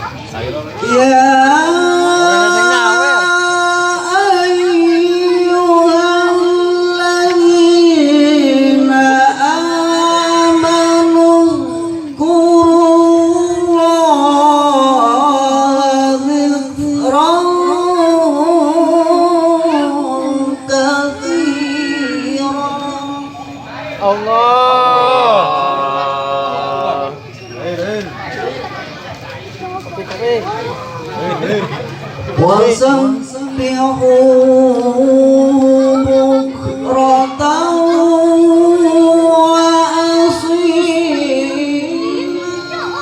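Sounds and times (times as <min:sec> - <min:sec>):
solo voice reciting melodically: 0:00.8 - 0:27.1, 0:32.4 - 0:43.0.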